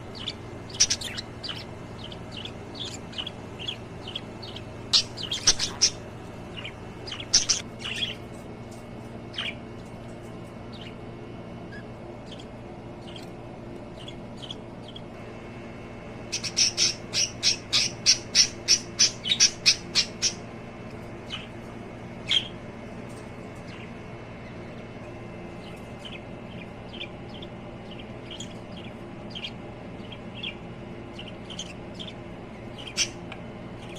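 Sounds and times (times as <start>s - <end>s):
lovebirds chirping: 0.0s - 15.3s, 16.2s - 33.9s.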